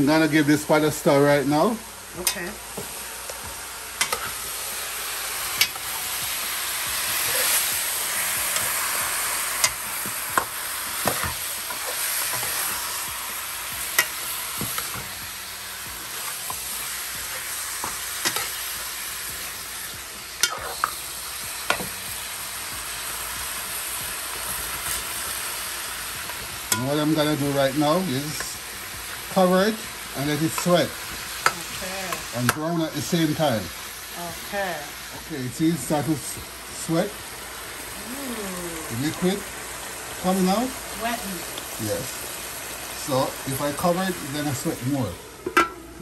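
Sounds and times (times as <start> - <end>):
meat sizzling in a pot: 0.0 - 46.0.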